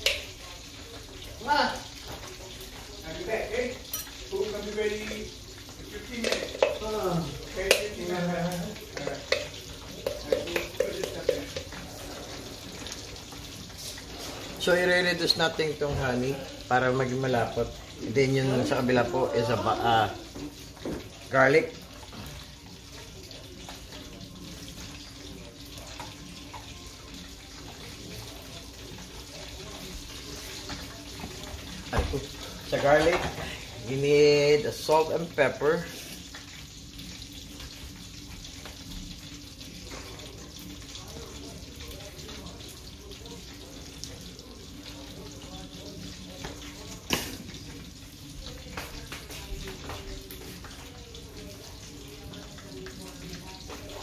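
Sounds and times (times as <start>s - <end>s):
garlic sizzling in a frying pan: 0.0s - 54.0s.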